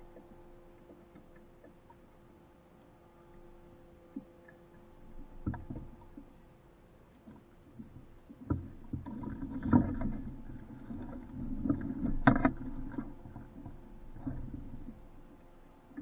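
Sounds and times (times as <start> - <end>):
water slapping boat hull: 0.0 - 16.0.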